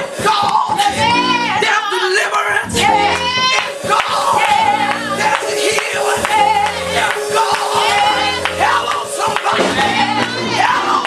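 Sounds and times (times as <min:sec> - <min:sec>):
quick percussion beat: 0:00.0 - 0:01.4, 0:02.7 - 0:11.0
voices singing and shouting: 0:00.0 - 0:11.0
organ-like chords: 0:00.8 - 0:01.7, 0:02.6 - 0:11.0.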